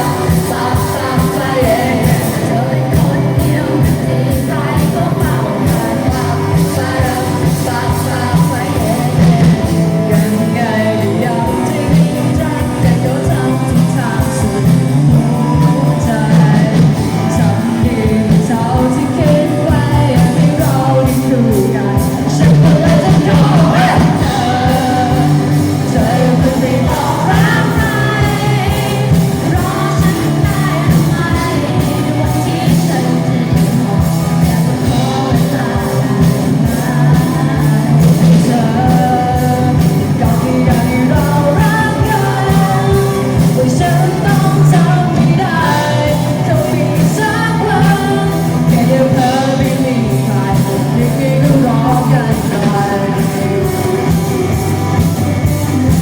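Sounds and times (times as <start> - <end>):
lead singer singing: 0.0 - 56.0
pop-rock band playing: 0.0 - 56.0.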